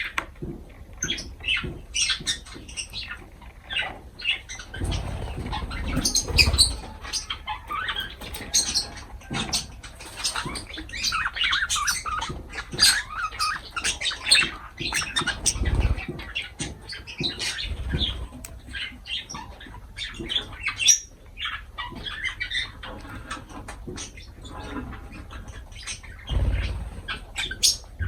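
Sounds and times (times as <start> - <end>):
lovebirds chirping and squawking: 0.0 - 28.0.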